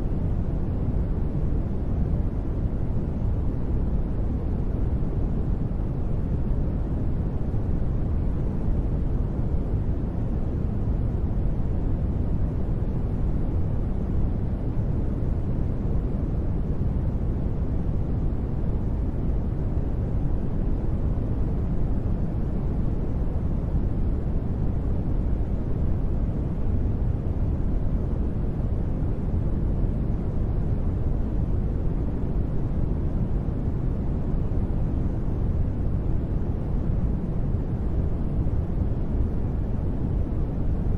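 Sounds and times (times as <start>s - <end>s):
deep white noise: 0.0s - 40.9s.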